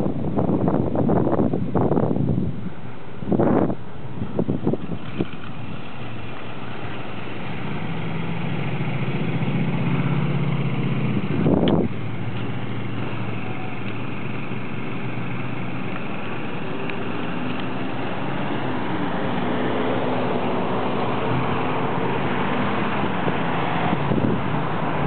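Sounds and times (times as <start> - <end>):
traffic hum: 0.0 - 25.0
vehicle engine passing: 4.2 - 25.0.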